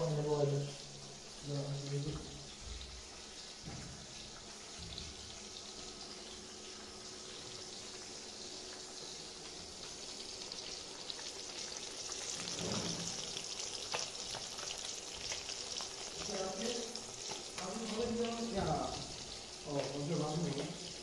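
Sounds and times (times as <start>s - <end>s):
hot oil sizzling in a wok: 0.0s - 21.0s.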